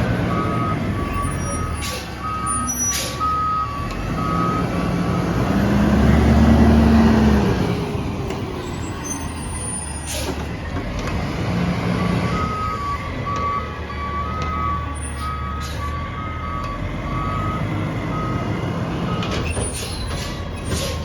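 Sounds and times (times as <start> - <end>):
garbage truck engine revving: 0.0 - 21.0
truck reversing beeps: 0.0 - 21.0.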